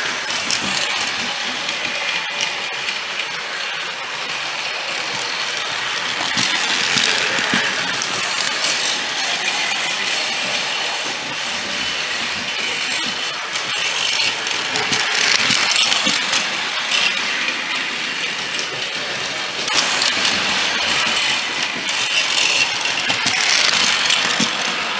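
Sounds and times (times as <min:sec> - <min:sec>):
toy trains whirring and rattling: 0:00.0 - 0:24.9.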